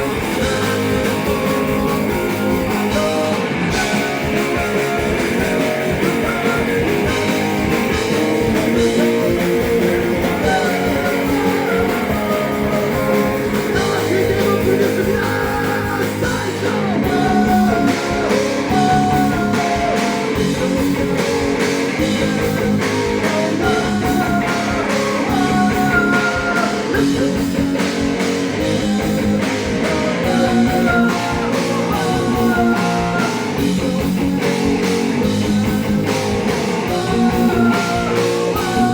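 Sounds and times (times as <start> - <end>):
electric guitar: 0.0 - 38.9
rock band playing: 0.0 - 38.9
person singing: 0.4 - 21.4, 22.0 - 27.2, 28.8 - 34.0, 36.8 - 38.9.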